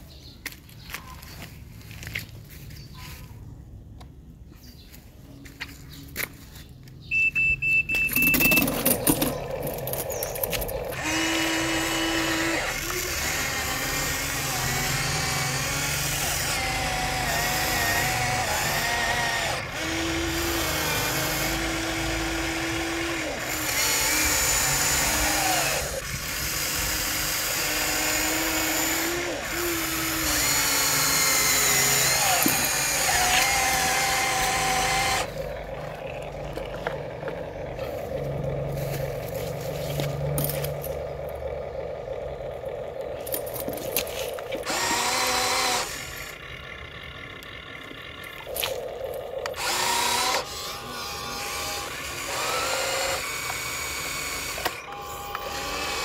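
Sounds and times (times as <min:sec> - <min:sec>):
small electric motor whining: 0:08.1 - 0:46.4, 0:48.4 - 0:56.0.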